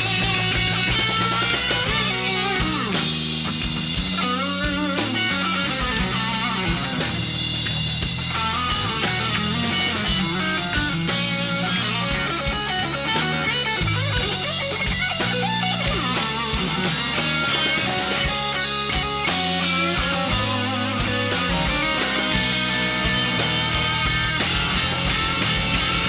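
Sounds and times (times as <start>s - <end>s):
bass: 0.0s - 26.0s
drum kit steady beat: 0.0s - 26.0s
electric guitar lead: 0.0s - 26.0s.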